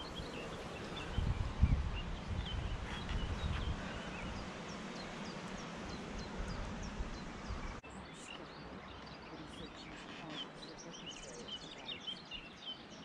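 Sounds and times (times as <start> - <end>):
low outdoor rumble: 0.0 - 11.8
small birds chirping: 0.0 - 13.0.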